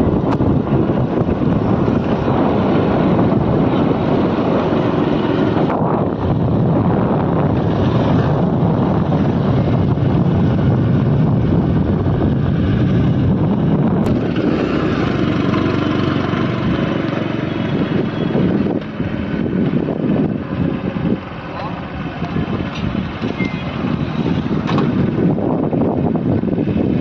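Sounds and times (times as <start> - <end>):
motorcycle ride rumble: 0.0 - 27.0
wind buffeting microphone: 0.0 - 27.0.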